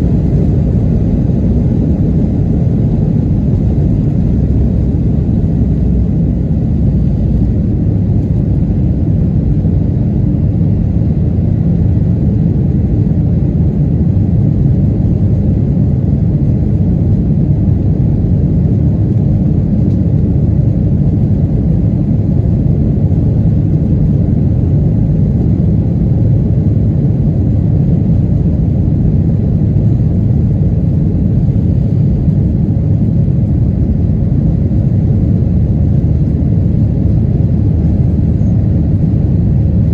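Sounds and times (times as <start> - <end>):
airflow over fuselage: 0.0 - 39.9
jet engines rumbling: 0.0 - 39.9.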